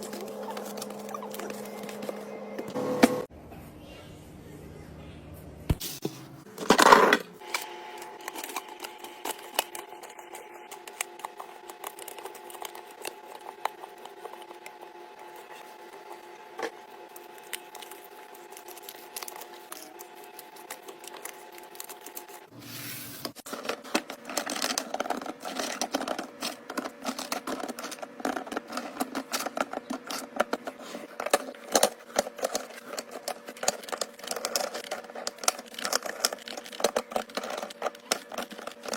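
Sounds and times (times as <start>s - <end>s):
fridge hum: 0.0s - 38.9s.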